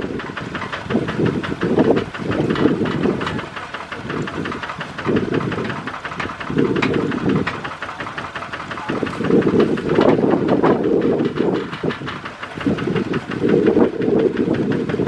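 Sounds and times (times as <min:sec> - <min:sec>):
diesel tractor engine idling: 0:00.0 - 0:15.0
wind rumbling on microphone: 0:00.0 - 0:15.0.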